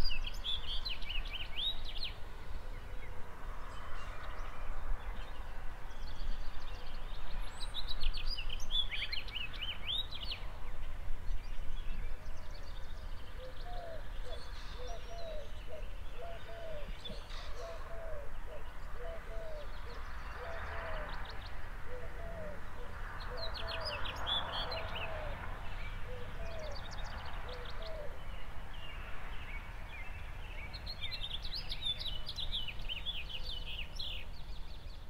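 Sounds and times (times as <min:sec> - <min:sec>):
birds chirping song: 0:00.0 - 0:35.0.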